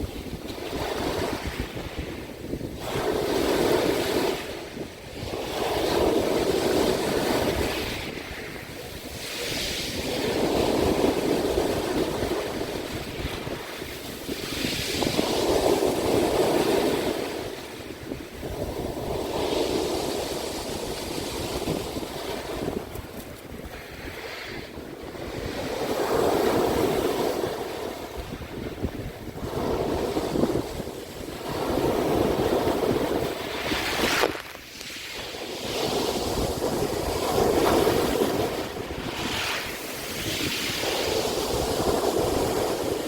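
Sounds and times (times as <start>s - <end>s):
sea waves breaking on shore: 0.0s - 43.0s.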